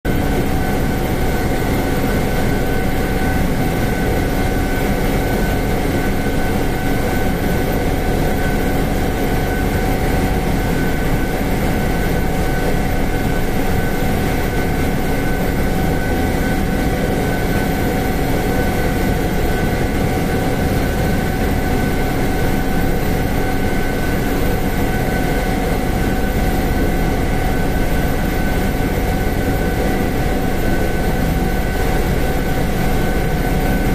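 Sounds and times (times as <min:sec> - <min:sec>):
helicopter rotor and engine drone: 0:00.1 - 0:33.9.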